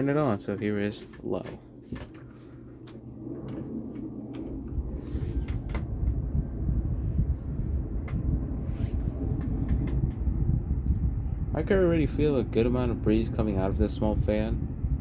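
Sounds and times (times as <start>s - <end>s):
box fan running: 0.0s - 15.0s.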